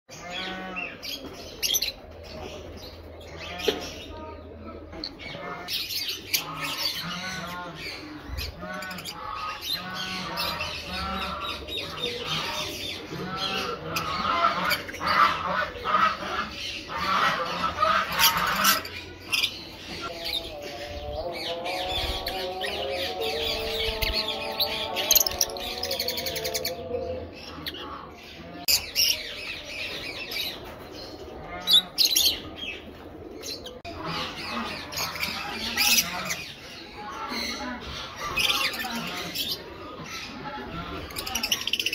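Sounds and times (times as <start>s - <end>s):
birds chattering and chirping: 0.1s - 41.9s.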